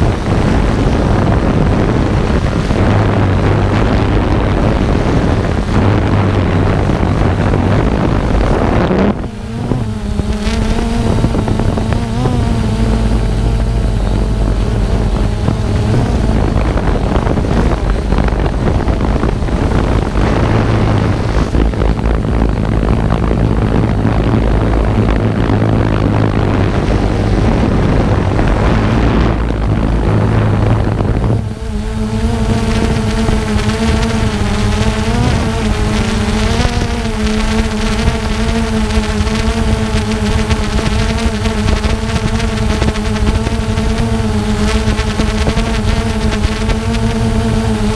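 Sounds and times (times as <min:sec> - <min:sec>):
drone propellers buzzing: 0:00.0 - 0:47.9
wind rumble on microphone: 0:00.0 - 0:47.9.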